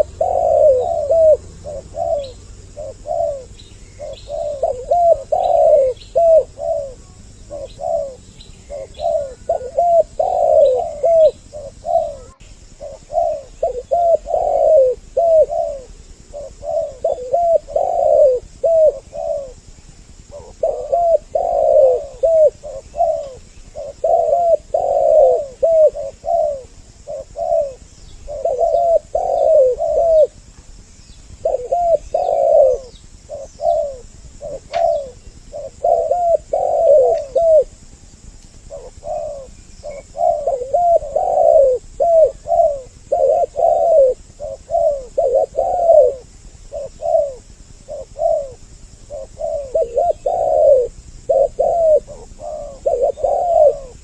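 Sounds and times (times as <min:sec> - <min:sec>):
dove cooing: 0:00.0 - 0:54.0
faint small bird chirps: 0:00.0 - 0:54.0.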